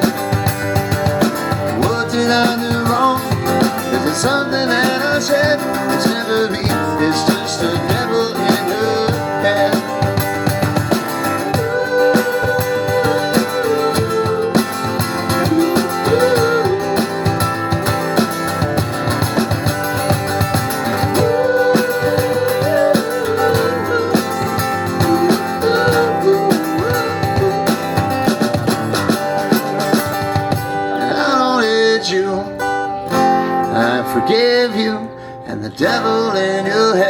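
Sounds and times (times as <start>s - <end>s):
steady drum beat: 0.0s - 31.0s
guitar melody with bent notes: 0.0s - 37.0s
strummed guitar chords: 0.0s - 37.0s.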